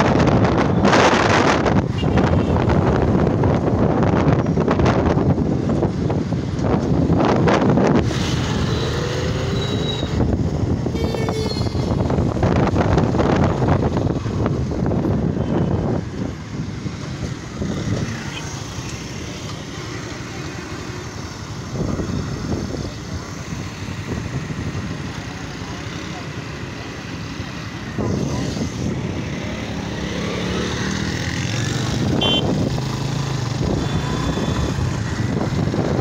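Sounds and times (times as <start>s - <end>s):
wind rushing over microphone: 0.0s - 19.3s, 19.9s - 36.0s.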